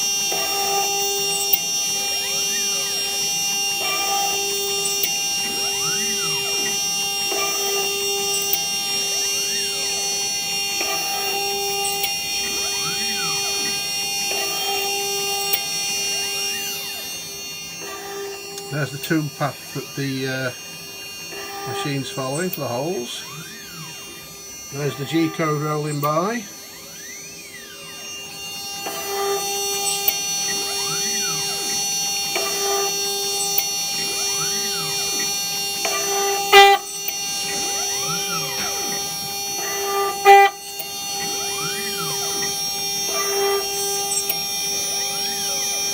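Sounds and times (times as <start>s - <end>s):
spindle whining: 0.0s - 45.9s
stepper motors rising tone: 0.0s - 45.9s.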